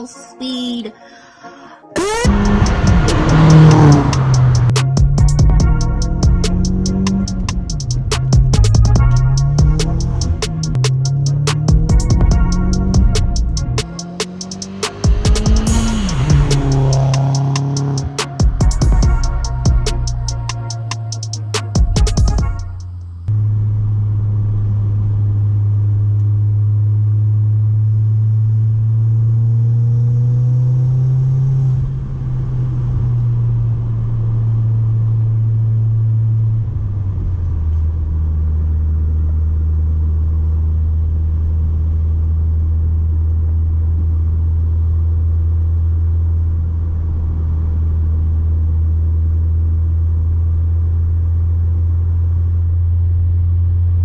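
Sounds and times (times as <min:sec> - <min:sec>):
car exhaust droning: 0:02.0 - 0:54.0.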